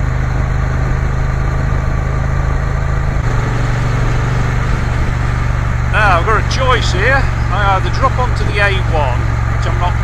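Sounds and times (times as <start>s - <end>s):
motorcycle engine running: 0.0s - 10.0s
road and wind noise: 0.0s - 10.0s.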